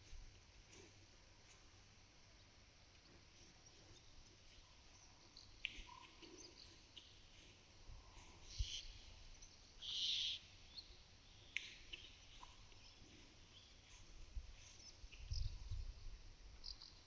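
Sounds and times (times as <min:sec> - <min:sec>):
small birds chirping: 0:02.3 - 0:17.0.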